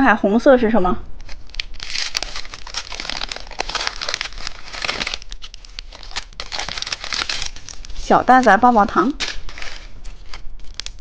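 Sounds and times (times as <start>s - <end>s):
candy wrapper crinkling: 1.2s - 11.0s.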